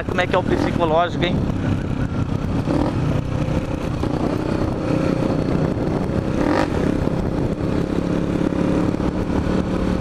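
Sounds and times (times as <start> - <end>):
motorcycle engines running: 0.0 - 10.0
wind noise on microphone: 0.0 - 10.0.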